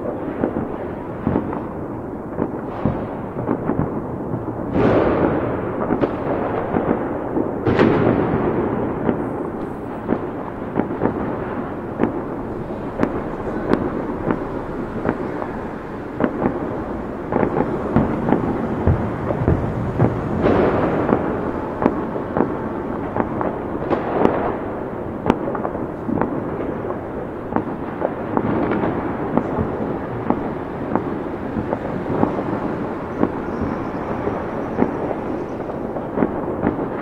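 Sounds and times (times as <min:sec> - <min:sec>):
fireworks crackling: 0:00.0 - 0:37.0
fireworks sharp bangs: 0:00.0 - 0:37.0.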